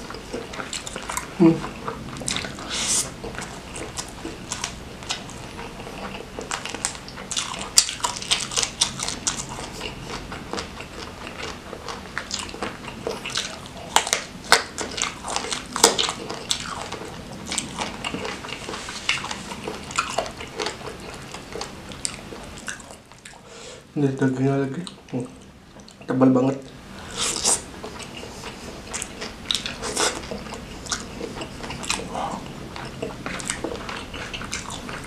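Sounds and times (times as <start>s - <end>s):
wet chewing with crunches: 0.0s - 23.4s, 27.1s - 35.0s.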